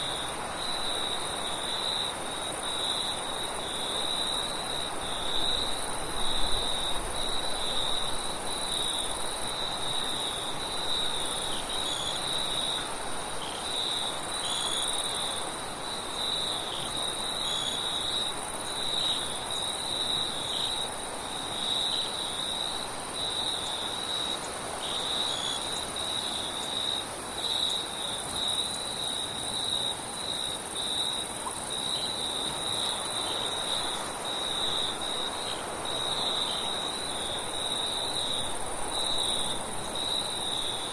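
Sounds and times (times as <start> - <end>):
crickets trilling: 0.0 - 40.9
soft wind hiss: 0.0 - 40.9.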